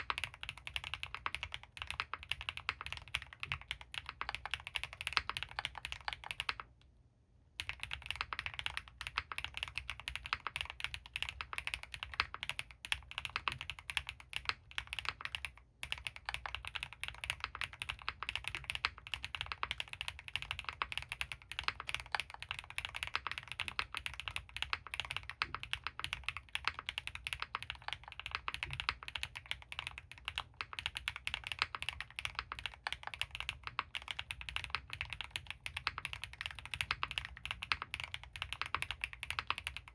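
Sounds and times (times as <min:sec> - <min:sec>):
mechanical keyboard typing: 0:00.0 - 0:06.7, 0:07.6 - 0:39.9.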